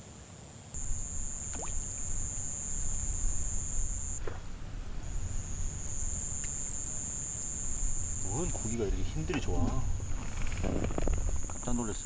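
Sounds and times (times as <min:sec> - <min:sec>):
insects trilling: 0:00.8 - 0:12.0.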